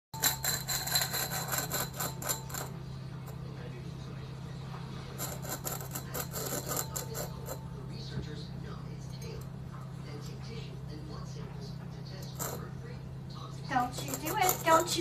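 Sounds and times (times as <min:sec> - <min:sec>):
steady low hum: 0:00.2 - 0:15.0.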